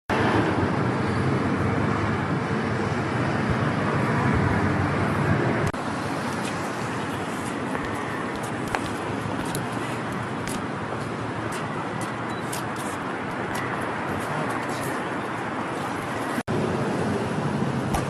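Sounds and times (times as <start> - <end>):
city traffic rumble: 0.1 - 18.0.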